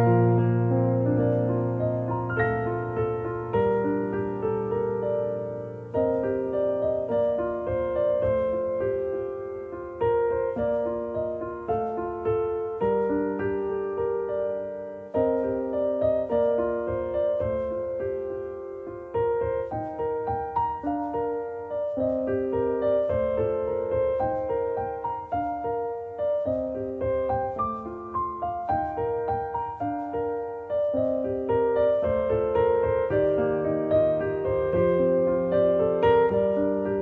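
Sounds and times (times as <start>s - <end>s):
soft piano music: 0.0s - 37.0s.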